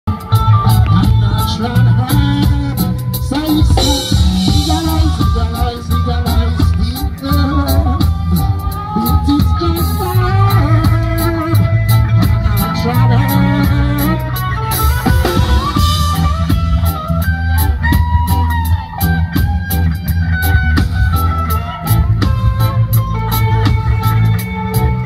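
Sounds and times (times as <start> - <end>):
drum kit beat: 0.1 - 25.0
live band playing: 0.1 - 25.0.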